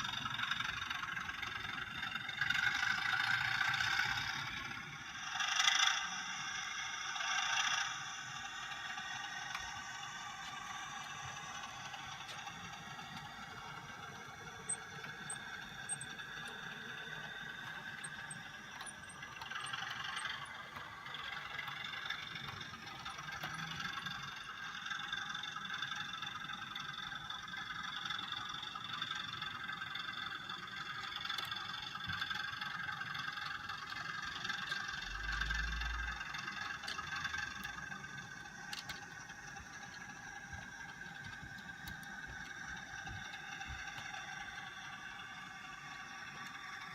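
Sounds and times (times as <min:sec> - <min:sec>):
model train whining and rattling: 0:00.0 - 0:46.9.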